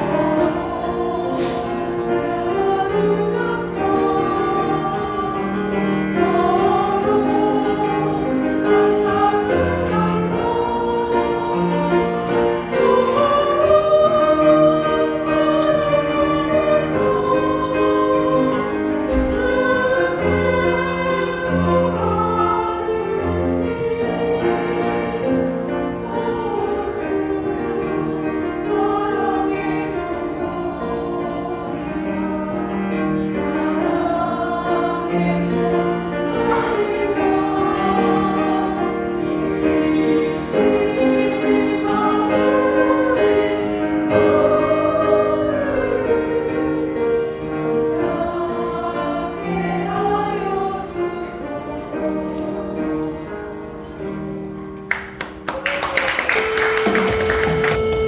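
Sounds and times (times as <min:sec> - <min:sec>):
voices singing together: 0:00.0 - 0:58.0.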